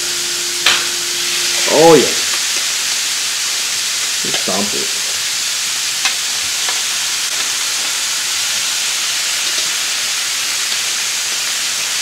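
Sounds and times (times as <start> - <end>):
beef sizzling on griddle: 0.0 - 12.0.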